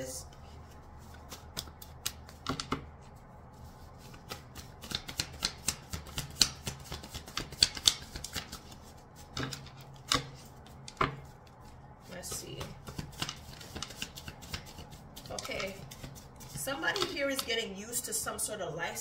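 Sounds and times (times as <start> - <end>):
cards being shuffled by hand: 0.2 - 17.6.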